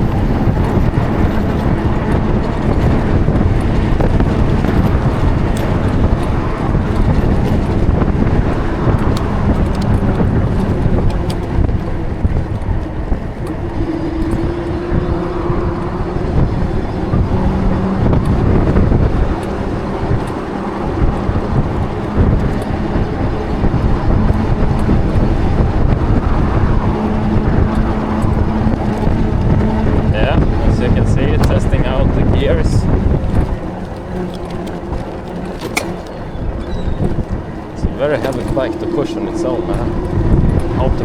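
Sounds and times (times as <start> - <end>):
faint engine hum: 0.0 - 41.0
road traffic: 0.0 - 41.0
wind rumbling on microphone: 0.0 - 41.0.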